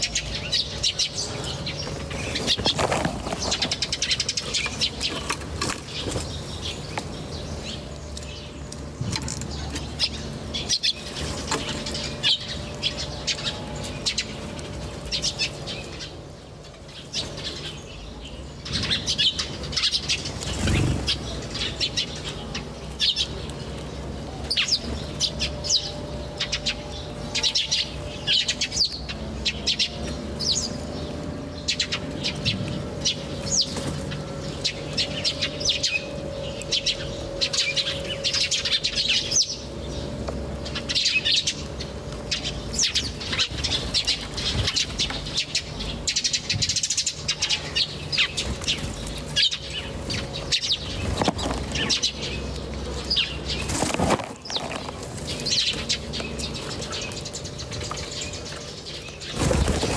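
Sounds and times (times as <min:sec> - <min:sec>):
low steady hum: 0:00.0 - 0:59.9
small birds chirping: 0:00.0 - 0:59.9.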